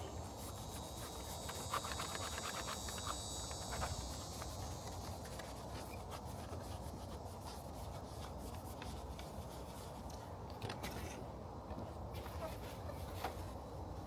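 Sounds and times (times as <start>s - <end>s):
rubbing and light scraping: 0.0s - 14.0s
steady low hum: 0.0s - 14.0s.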